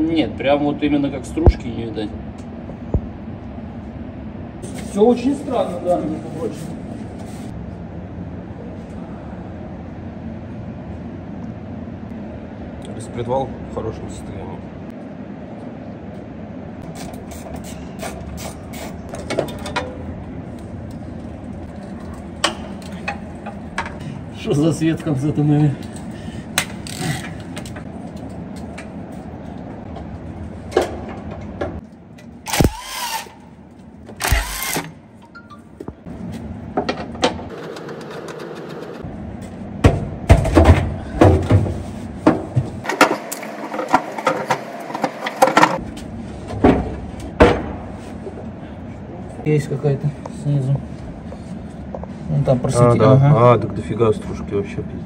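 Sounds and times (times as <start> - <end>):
steady low hum: 0.0 - 43.0, 45.8 - 55.0.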